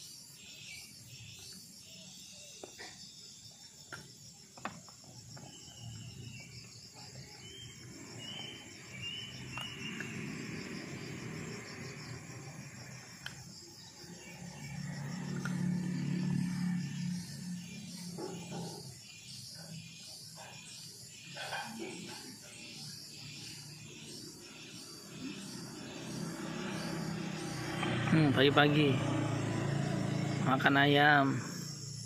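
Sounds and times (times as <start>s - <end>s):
insects chorus: 0.0s - 32.0s.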